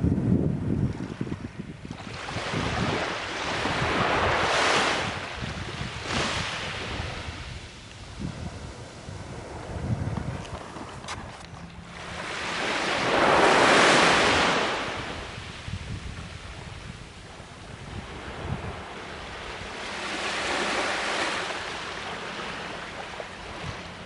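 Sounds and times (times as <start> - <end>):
wind buffeting microphone: 0.0 - 24.0
waves breaking on sandy beach: 0.8 - 24.0.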